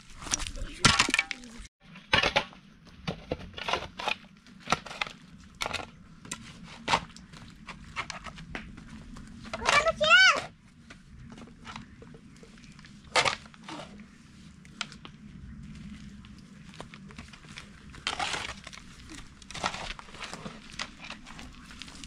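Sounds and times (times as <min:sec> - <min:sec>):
rustling and crackling: 0:00.0 - 0:01.7, 0:02.8 - 0:22.0.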